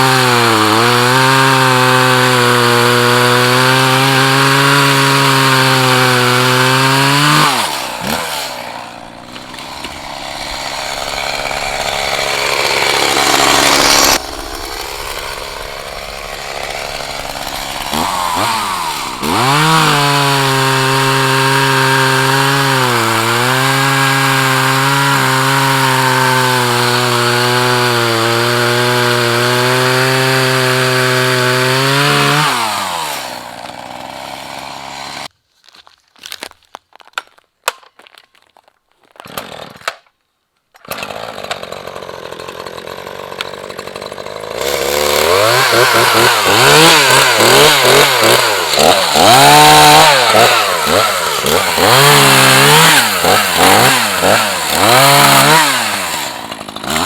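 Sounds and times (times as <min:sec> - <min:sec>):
chainsaw cutting wood: 0:00.0 - 0:35.3, 0:39.0 - 0:57.0.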